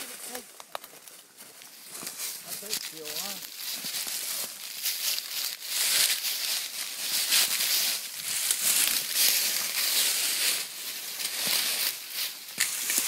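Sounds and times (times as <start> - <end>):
dry leaves rustling and crackling: 0.0 - 13.0.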